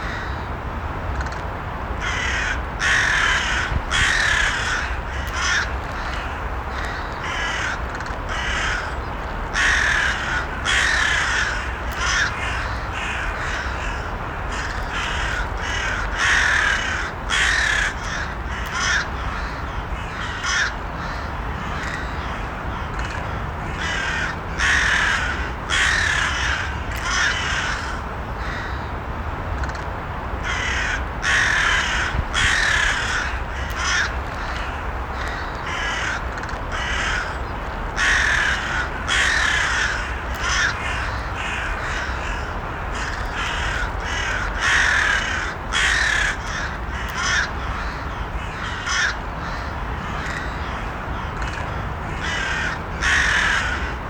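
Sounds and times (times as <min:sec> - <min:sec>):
crows cawing: 0:00.0 - 0:00.4, 0:02.0 - 0:28.9, 0:30.4 - 0:54.0.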